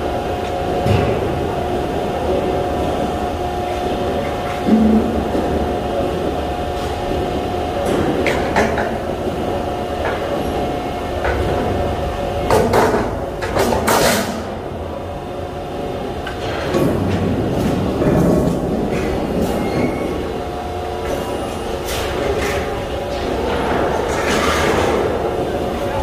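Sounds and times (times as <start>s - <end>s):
heavy machinery hum: 0.0s - 26.0s.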